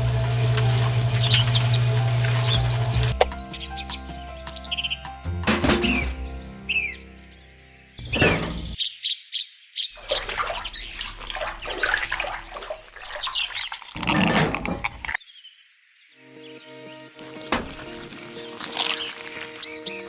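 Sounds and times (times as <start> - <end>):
small birds chirping: 0.0 - 14.0, 14.9 - 20.0.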